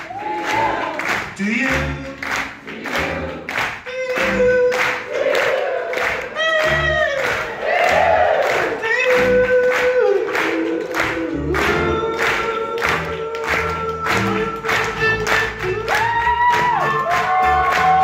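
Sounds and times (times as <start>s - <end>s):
double bass: 0.6s - 4.8s, 6.4s - 10.1s, 10.9s - 18.0s.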